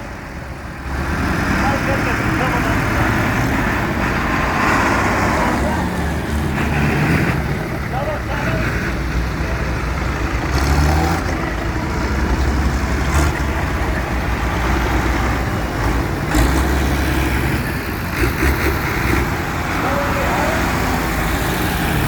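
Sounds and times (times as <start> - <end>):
tractor engines rumbling: 0.0 - 22.0.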